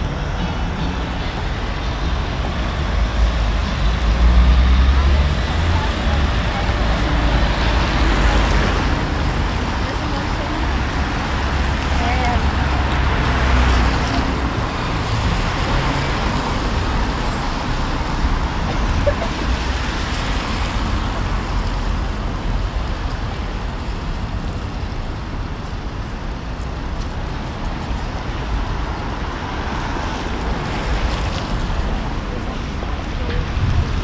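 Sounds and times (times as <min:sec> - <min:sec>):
city road traffic: 0:00.0 - 0:34.0.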